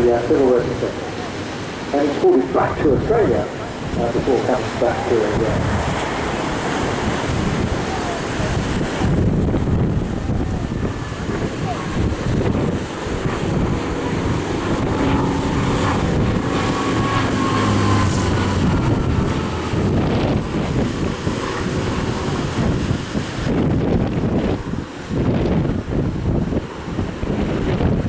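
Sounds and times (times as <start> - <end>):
aircraft radial engine droning: 0.0 - 28.0
wind buffeting on microphone: 0.0 - 28.0.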